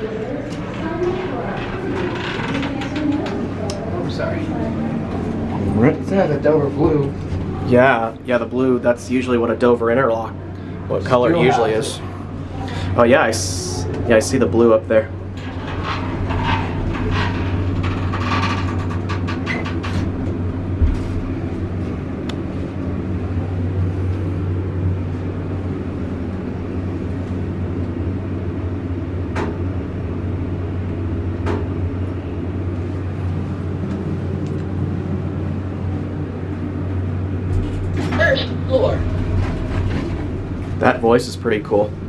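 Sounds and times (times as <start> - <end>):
elevator humming: 0.0 - 42.0.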